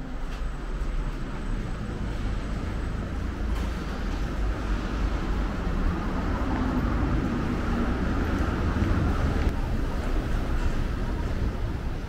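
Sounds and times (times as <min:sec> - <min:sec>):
cars passing on road: 0:00.0 - 0:12.0
faint vehicle hum: 0:00.0 - 0:12.0.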